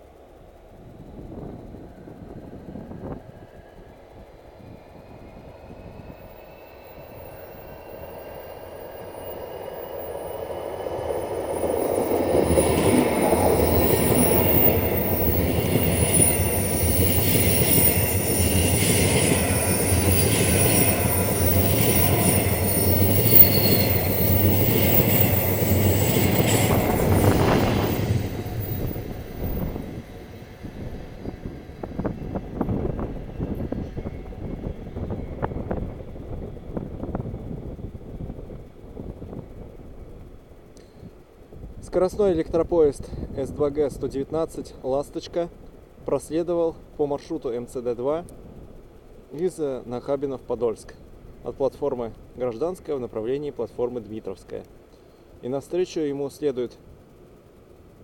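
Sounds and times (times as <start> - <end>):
electric train whine: 0.0 - 58.0
train wheels rumbling on rails: 0.0 - 58.0.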